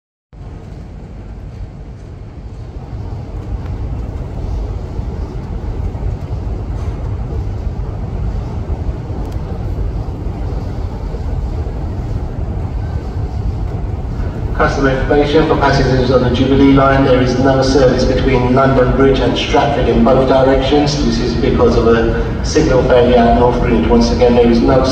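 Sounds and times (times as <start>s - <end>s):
low rumble of underground station: 0.3s - 24.9s.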